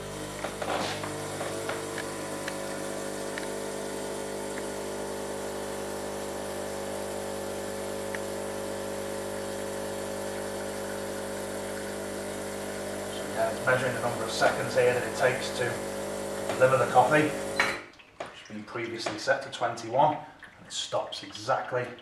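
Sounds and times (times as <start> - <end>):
espresso machine pump running: 0.0 - 17.8.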